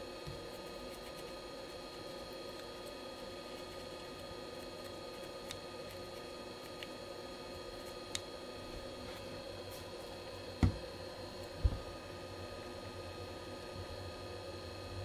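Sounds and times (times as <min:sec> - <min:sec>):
low equipment hum: 0:00.0 - 0:15.0.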